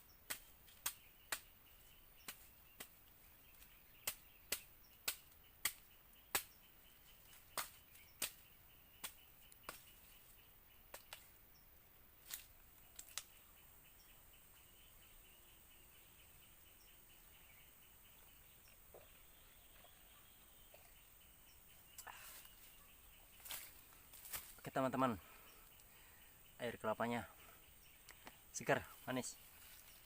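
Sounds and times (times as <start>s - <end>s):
faint insect hum: 0.0s - 30.0s.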